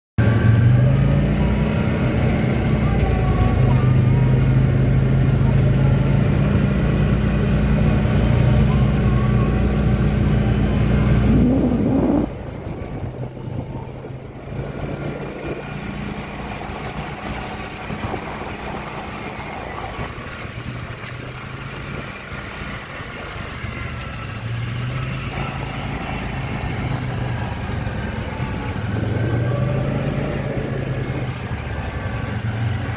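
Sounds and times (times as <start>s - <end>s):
dirt bike engine idling and revving: 0.2s - 32.9s.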